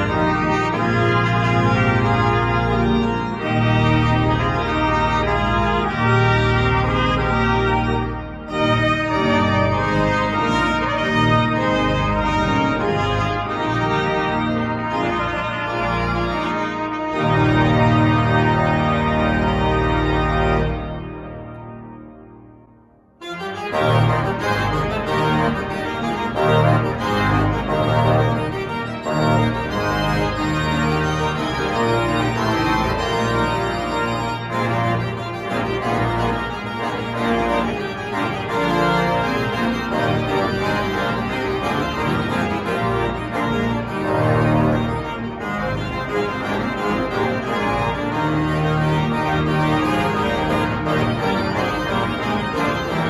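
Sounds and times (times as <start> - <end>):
church pipe organ playing: 0.0 - 53.0.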